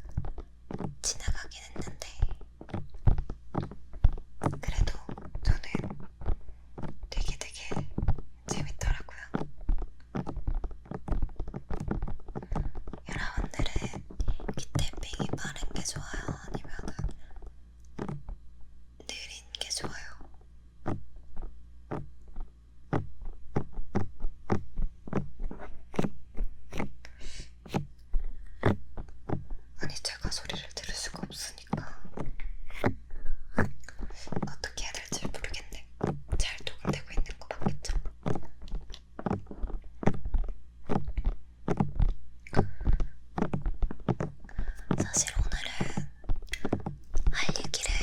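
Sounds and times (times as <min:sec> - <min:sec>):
fingers tapping on microphone: 0:00.0 - 0:18.4, 0:19.0 - 0:48.0
low electrical hum: 0:00.0 - 0:48.0.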